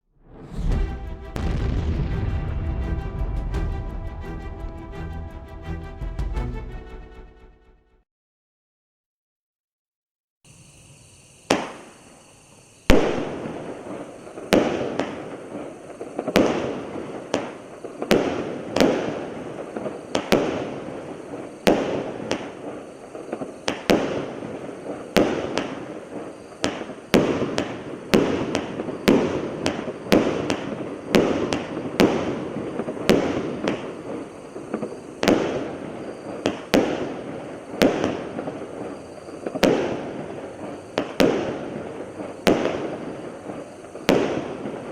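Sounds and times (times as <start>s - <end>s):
firework shots banging and crackling: 0.5s - 4.1s, 11.5s - 12.0s, 12.9s - 44.9s.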